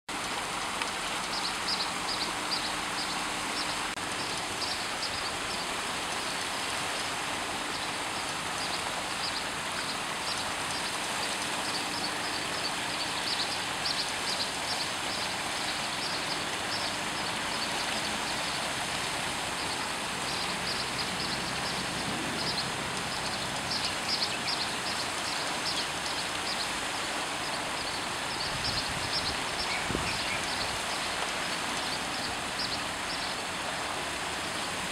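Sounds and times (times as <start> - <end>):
water rushing from waterfall: 0.1 - 34.9
rapid high-pitched ticking chirps: 1.2 - 33.4.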